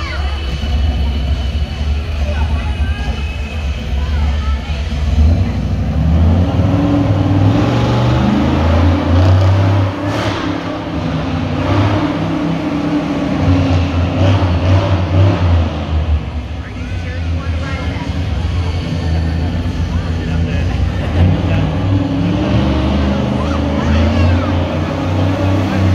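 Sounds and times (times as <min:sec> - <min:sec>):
truck engine revving: 0:00.0 - 0:25.9.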